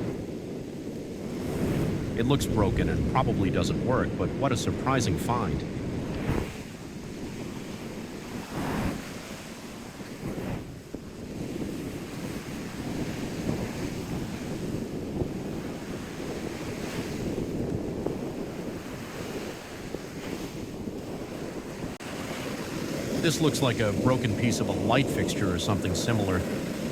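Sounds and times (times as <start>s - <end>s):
ocean surf washing on shore: 0.0s - 26.9s
wind buffeting microphone: 0.0s - 26.9s.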